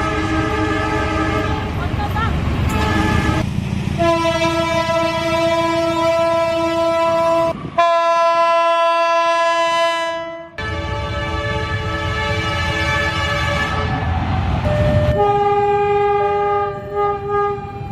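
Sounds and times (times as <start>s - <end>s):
locomotive air horn chord: 0.0s - 1.6s, 2.7s - 3.4s, 4.0s - 14.1s, 14.7s - 17.9s
low locomotive rumble: 0.0s - 17.9s.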